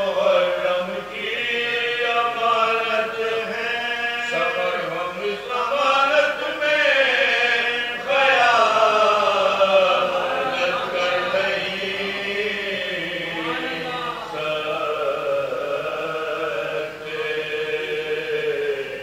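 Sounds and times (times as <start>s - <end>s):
men chanting melodically: 0.0s - 19.0s.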